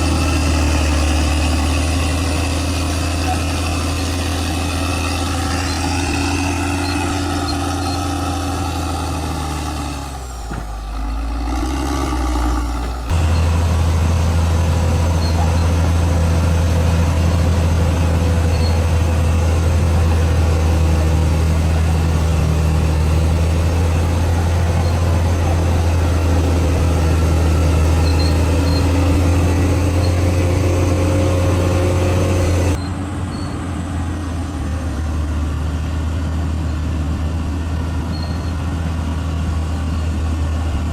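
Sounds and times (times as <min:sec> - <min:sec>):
bulldozer diesel engine drone: 0:00.0 - 0:40.9.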